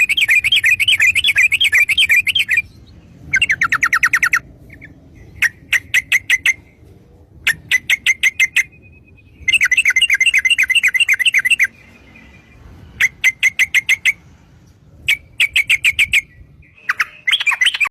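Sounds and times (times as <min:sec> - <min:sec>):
bulbul singing in fast bursts: 0:00.0 - 0:06.8, 0:07.4 - 0:17.9.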